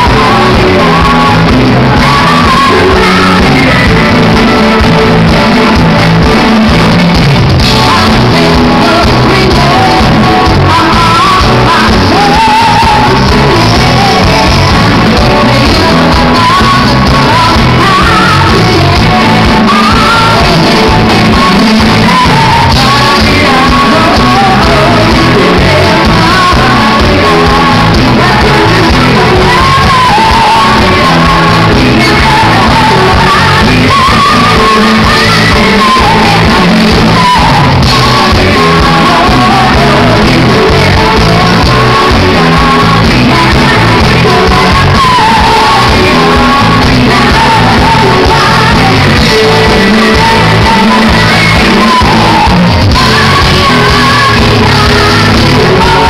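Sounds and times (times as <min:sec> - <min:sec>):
live band music: 0:00.0 - 0:56.0
woman singing: 0:00.0 - 0:56.0.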